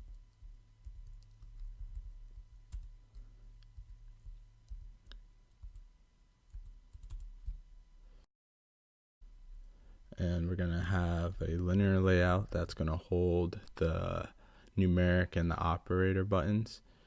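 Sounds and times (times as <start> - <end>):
faint low hum: 0.0 - 8.3, 9.2 - 17.0.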